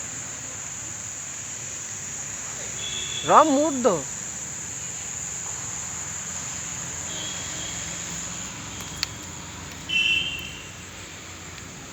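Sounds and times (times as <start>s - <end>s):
high-pitched insect drone: 0.0s - 11.9s.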